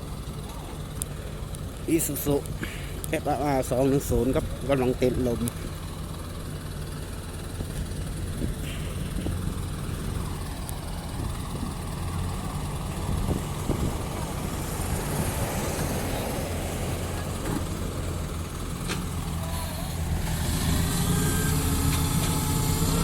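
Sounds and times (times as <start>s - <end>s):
excavator diesel engine droning: 0.0s - 23.0s.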